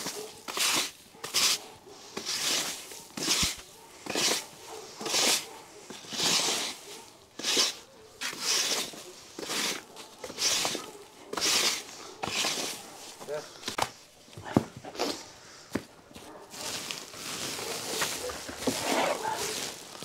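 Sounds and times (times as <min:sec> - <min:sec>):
push broom sweeping: 0:00.0 - 0:14.0, 0:16.2 - 0:20.0.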